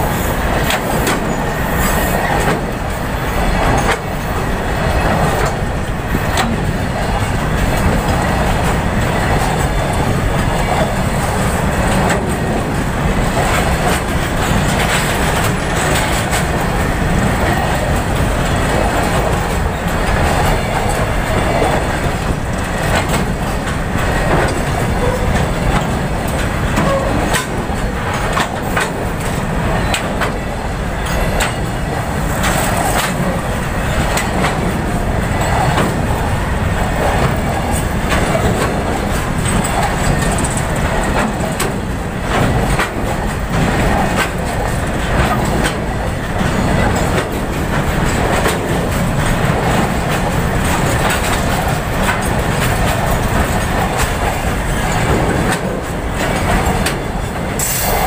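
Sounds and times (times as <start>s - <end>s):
train wheels rumbling on rails: 0.0s - 58.0s
wagon clicks and clanks: 6.3s - 30.4s, 31.0s - 58.0s.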